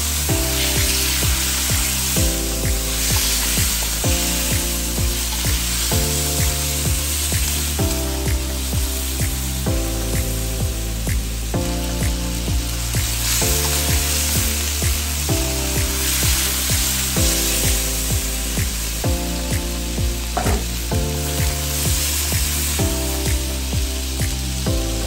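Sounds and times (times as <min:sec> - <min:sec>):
background music with beat: 0:00.0 - 0:25.0
chicken sizzling in hot oil: 0:00.0 - 0:25.0.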